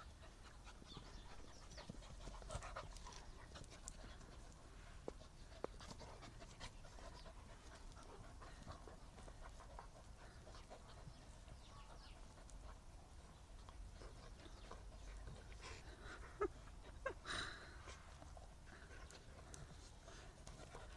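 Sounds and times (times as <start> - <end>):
dogs panting: 0.0 - 20.9.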